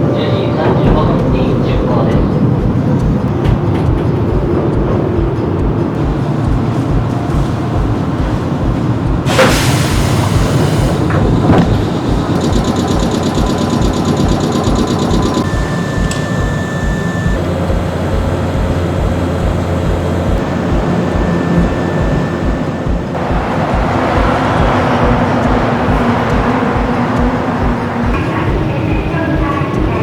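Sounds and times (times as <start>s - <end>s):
diesel engine throbbing: 0.0s - 30.0s.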